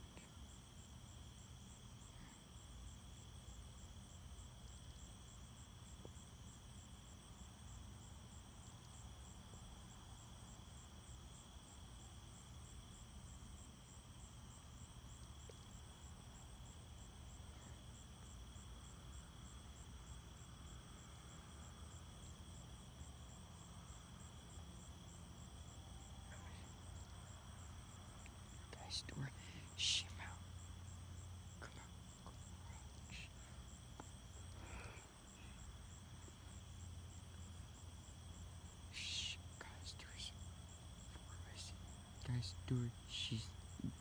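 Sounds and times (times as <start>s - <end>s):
cricket trill: 0.0s - 44.0s
pulsing cricket chirp: 0.0s - 44.0s.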